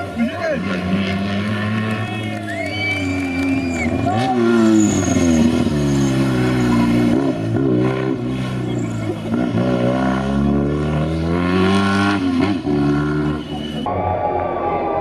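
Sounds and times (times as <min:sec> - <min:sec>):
car engine revving hard: 0:00.4 - 0:13.8.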